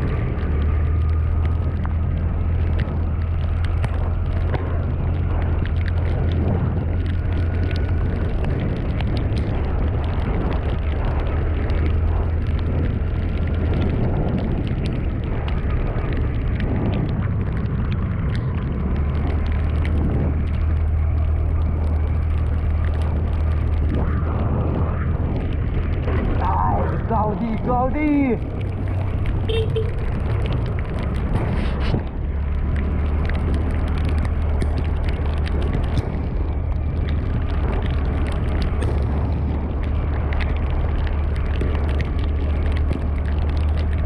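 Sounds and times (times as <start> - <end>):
road noise: 0.0 - 44.0
vehicle engine: 0.0 - 44.0.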